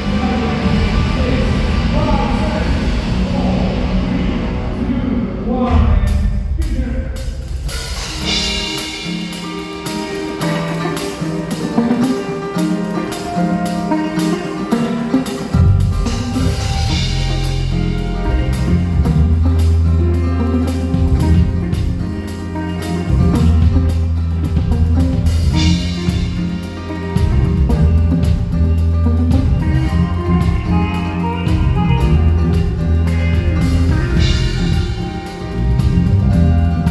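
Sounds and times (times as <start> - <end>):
deep bass notes: 0.0 - 8.5, 15.6 - 36.9
live band with drums and guitar: 0.0 - 36.9.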